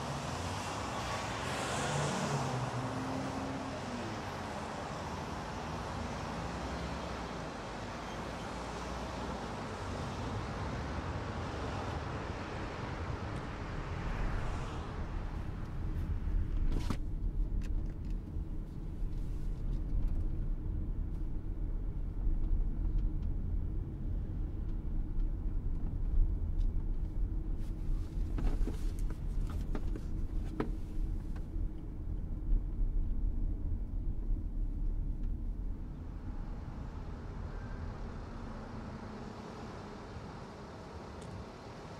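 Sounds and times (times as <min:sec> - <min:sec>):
road and wind noise rumble: 0:00.0 - 0:41.9.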